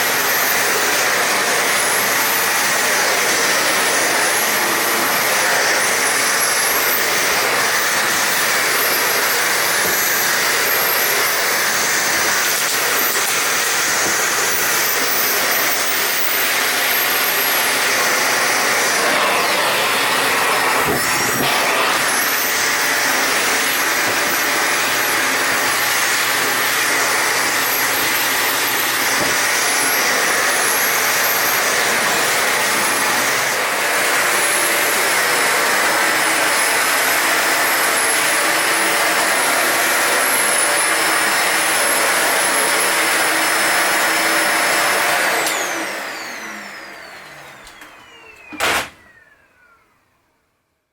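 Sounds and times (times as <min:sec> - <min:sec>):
vacuum cleaner whining: 0:00.0 - 0:50.6.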